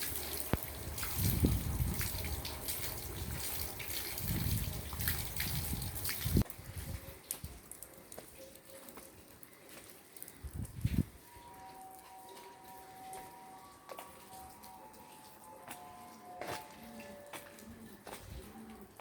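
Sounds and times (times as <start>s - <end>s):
rain falling and dripping: 0.0s - 19.0s.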